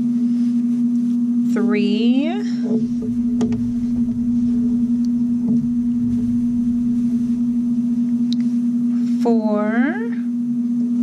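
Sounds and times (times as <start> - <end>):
low-pitched hum: 1.3 - 11.0
faint rumble: 1.5 - 11.0.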